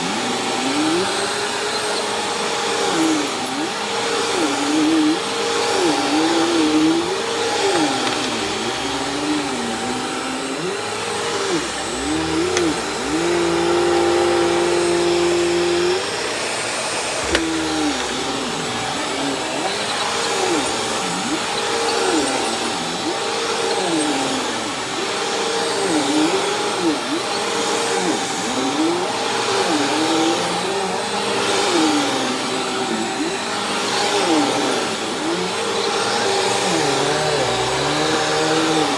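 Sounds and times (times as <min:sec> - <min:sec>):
upright vacuum running on carpet: 0:00.0 - 0:38.9.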